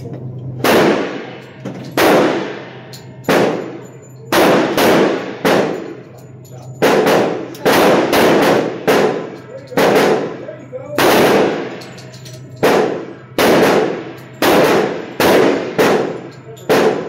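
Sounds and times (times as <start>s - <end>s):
pistol shots echoing indoors: 0.0s - 17.0s.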